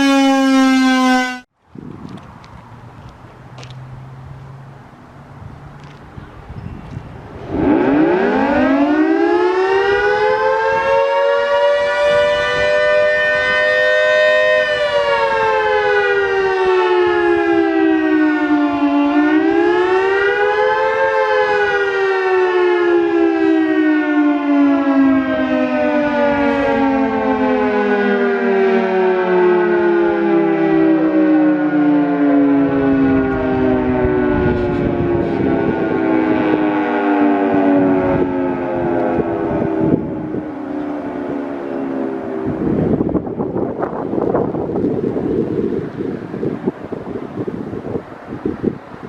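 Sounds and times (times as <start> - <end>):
three-tone warning siren: 0.0 - 1.6, 7.2 - 49.0.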